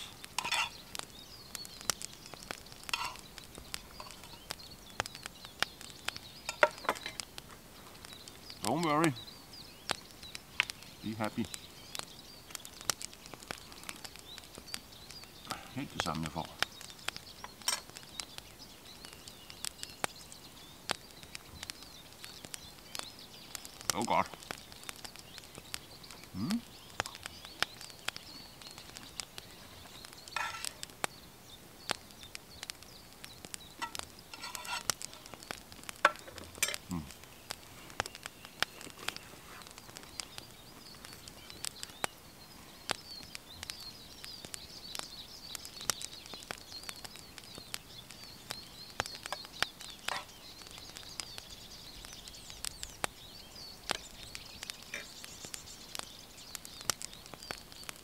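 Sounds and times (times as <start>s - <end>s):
birds singing: 0.0s - 58.0s
sharp clicks and crackles: 0.0s - 58.0s.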